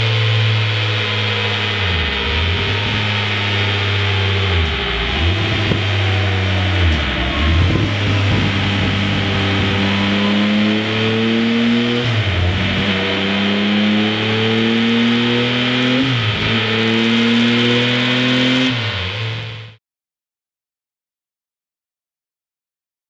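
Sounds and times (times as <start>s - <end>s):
motorcycle engine revving on dyno: 0.0s - 19.8s.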